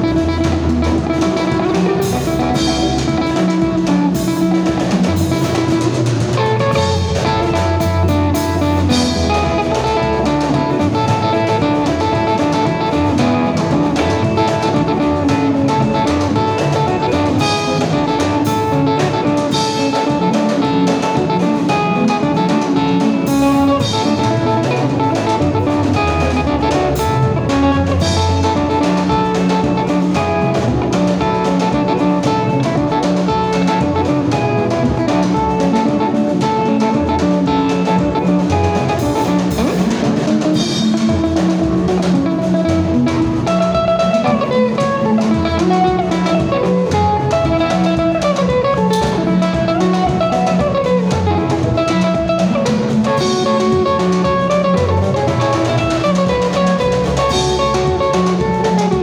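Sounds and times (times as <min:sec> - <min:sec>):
drum kit: 0:00.0 - 0:59.0
electric bass: 0:00.0 - 0:59.0
keyboard: 0:00.0 - 0:59.0
lead electric guitar: 0:00.0 - 0:59.0.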